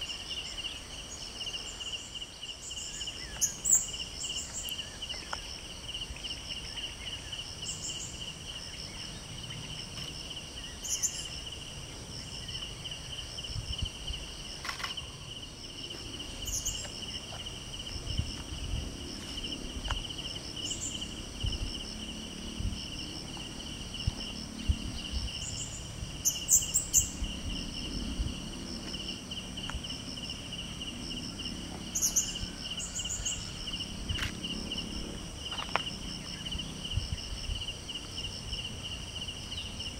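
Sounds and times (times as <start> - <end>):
higher insect chirps: 0.0 - 39.9
insects trilling: 0.0 - 39.9.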